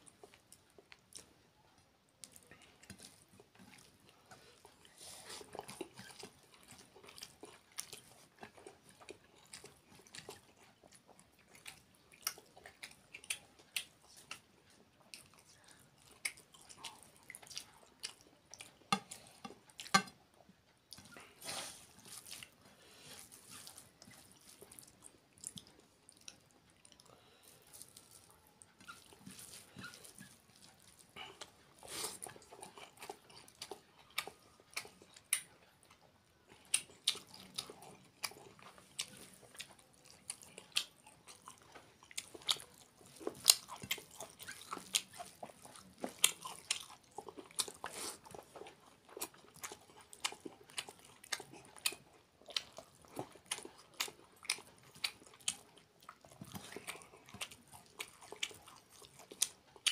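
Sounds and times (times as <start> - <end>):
mouth smacking and chewing: 0.0 - 59.9.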